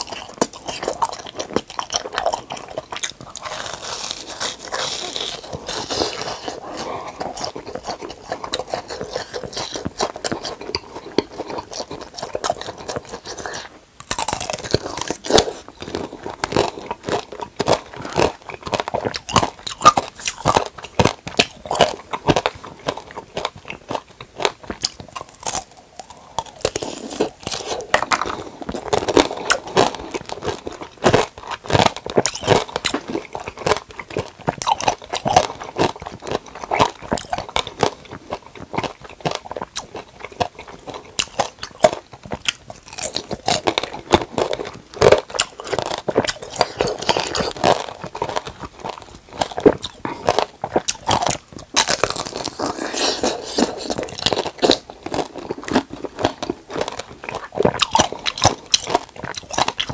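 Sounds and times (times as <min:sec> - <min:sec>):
candy shell crunching: 0:00.0 - 0:59.9.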